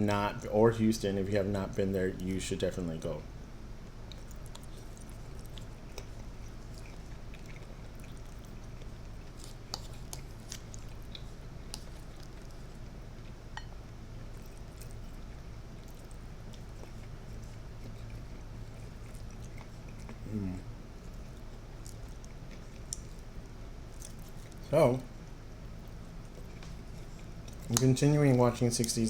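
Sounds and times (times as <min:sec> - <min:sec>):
steady low hum: 0:00.0 - 0:29.0
close chewing: 0:04.0 - 0:24.7, 0:25.7 - 0:29.0.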